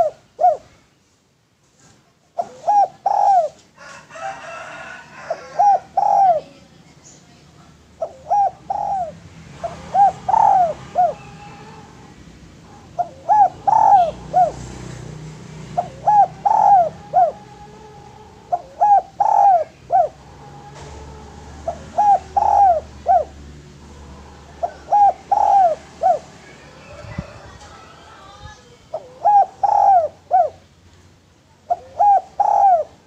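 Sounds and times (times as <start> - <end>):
dove cooing: 0.0 - 0.7, 2.4 - 6.7, 7.9 - 30.6, 31.6 - 33.0.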